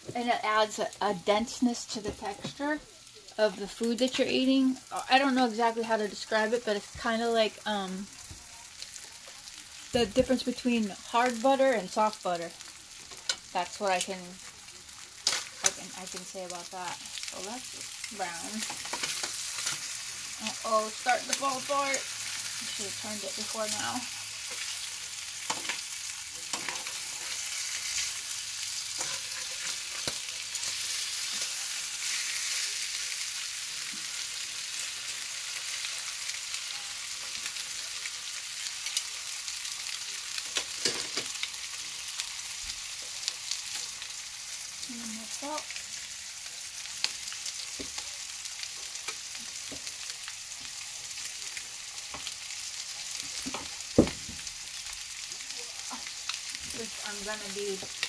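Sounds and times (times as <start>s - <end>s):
fish frying in oil: 0.0s - 58.0s.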